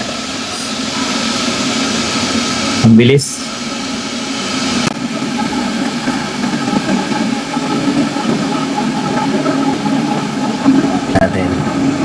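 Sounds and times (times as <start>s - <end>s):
electric kettle heating water: 0.0s - 12.0s.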